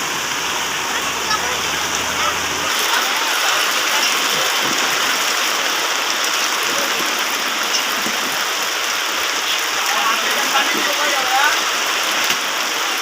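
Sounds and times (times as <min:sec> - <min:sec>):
torrential rain pouring: 0:00.0 - 0:13.0.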